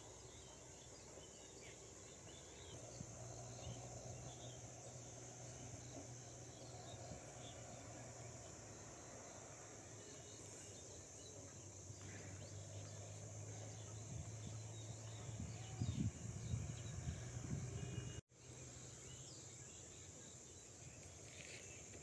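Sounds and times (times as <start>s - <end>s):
crickets and insects droning: 0.0s - 22.0s.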